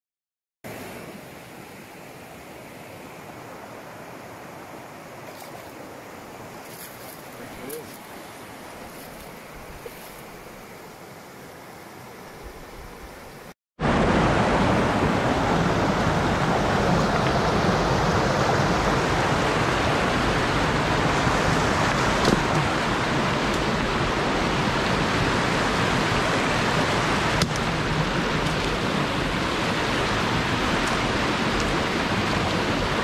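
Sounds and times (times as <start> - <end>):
mountain stream rushing over rocks: 0.7 - 33.0.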